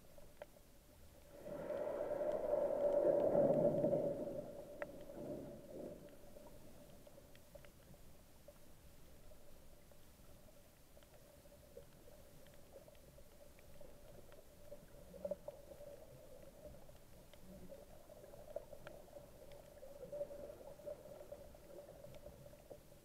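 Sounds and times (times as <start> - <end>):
small underwater clicks: 0.0 - 23.0.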